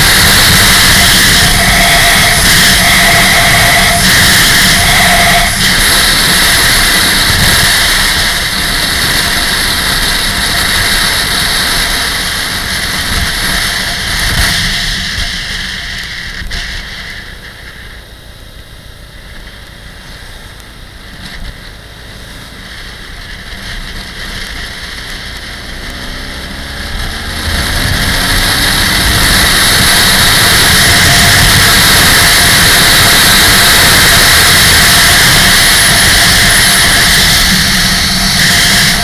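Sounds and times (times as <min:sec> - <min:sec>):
wind rush on microphone: 0:00.0 - 0:18.0, 0:19.0 - 0:39.0
motorcycle engine accelerating: 0:00.0 - 0:39.0.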